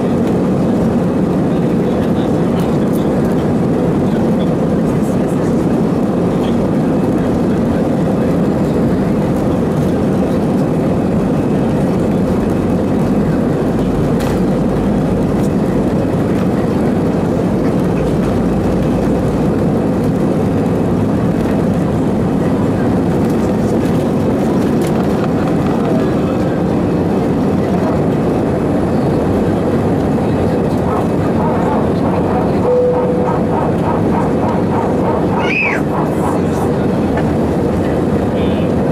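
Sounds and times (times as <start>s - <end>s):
jet engines roaring: 0.0s - 38.9s
rushing airflow: 2.8s - 38.9s.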